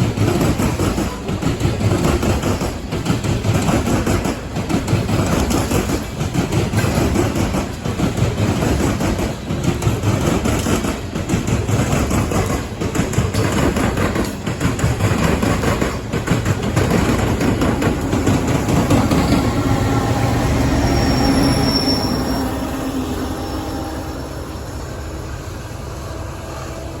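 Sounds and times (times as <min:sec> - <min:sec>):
train wheels clattering over rail joints: 0:00.0 - 0:22.4
train low drone: 0:00.0 - 0:27.0.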